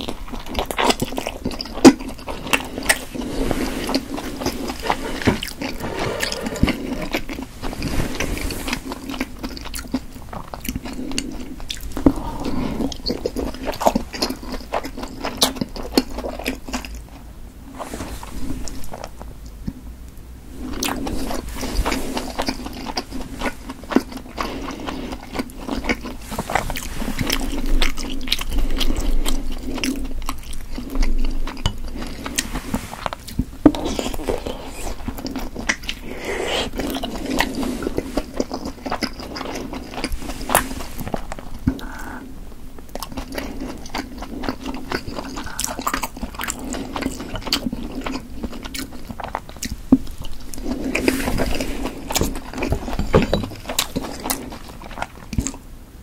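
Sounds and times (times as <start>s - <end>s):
person chewing: 0.0s - 19.8s, 20.5s - 55.6s.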